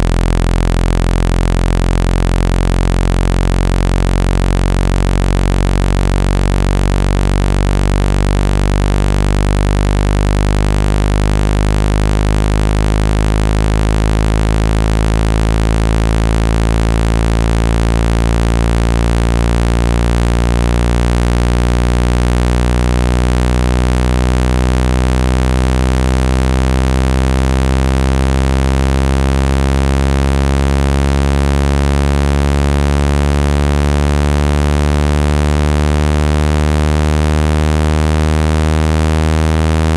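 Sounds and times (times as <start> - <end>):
low buzz tone rising in pitch: 0.0 - 39.9.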